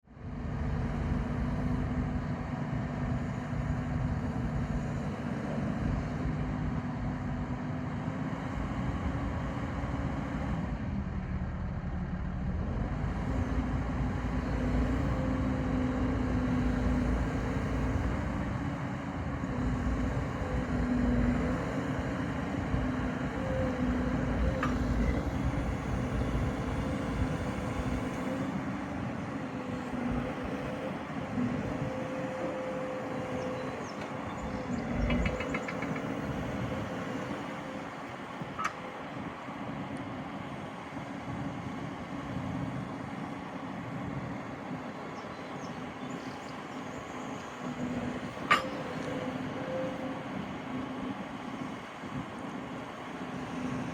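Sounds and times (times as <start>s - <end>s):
excavator diesel engine running: 0.1s - 53.9s.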